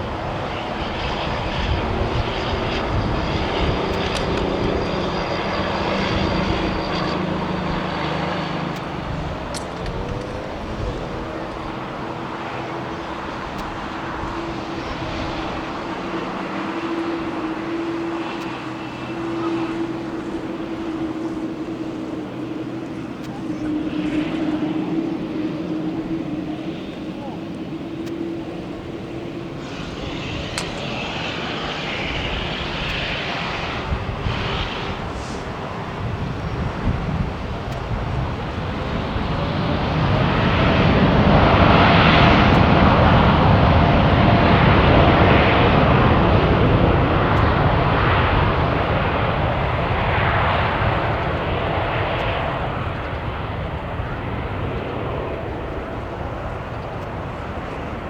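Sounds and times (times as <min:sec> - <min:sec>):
jet engines passing: 0:00.0 - 0:58.0.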